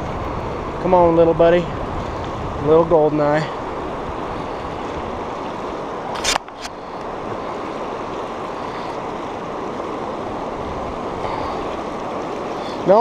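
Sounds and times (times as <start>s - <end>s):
river water flowing: 0.0s - 13.0s
wind on microphone: 0.0s - 13.0s.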